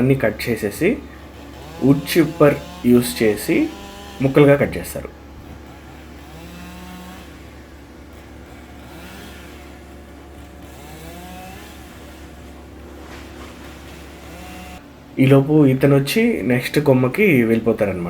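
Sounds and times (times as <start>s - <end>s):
wood chipper engine running: 0.0s - 18.0s.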